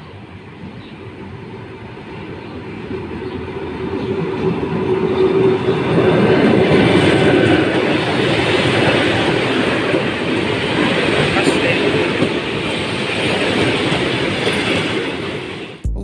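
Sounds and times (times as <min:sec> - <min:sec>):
electric train rolling past: 0:00.0 - 0:15.8.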